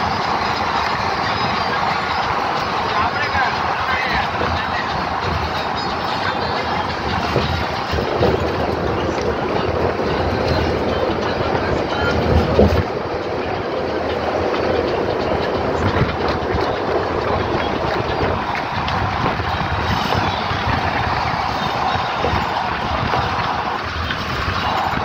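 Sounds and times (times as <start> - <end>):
vehicle road noise and engine rumble: 0.0 - 25.0.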